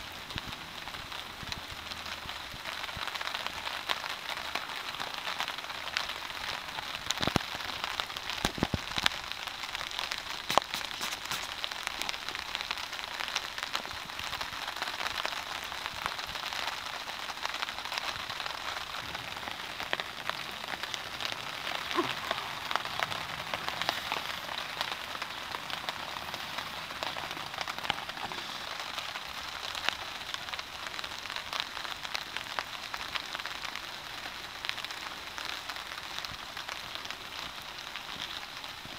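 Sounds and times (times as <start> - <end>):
rain pattering on a tarp: 0.0 - 38.9.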